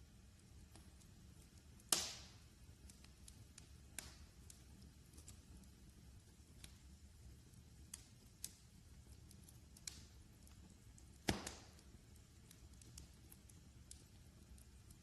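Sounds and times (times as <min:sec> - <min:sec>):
fire snaps and pops: 0:00.0 - 0:15.0
wood fire crackling: 0:00.0 - 0:15.0.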